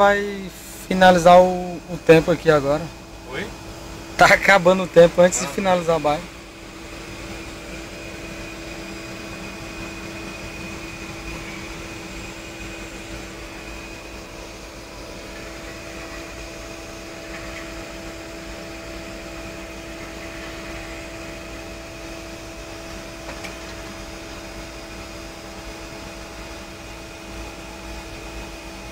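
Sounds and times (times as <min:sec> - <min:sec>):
airliner cockpit hum: 0:00.0 - 0:28.9.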